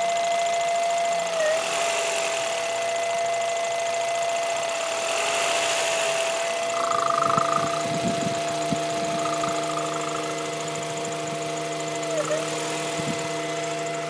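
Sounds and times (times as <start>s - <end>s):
car engine running with hum: 0.0s - 14.0s.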